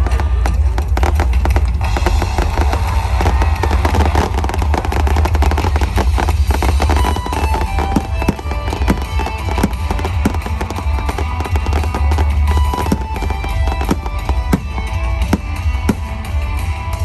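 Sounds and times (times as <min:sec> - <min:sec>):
fireworks bangs and crackles: 0:00.0 - 0:17.0
loud pop music: 0:00.0 - 0:17.0.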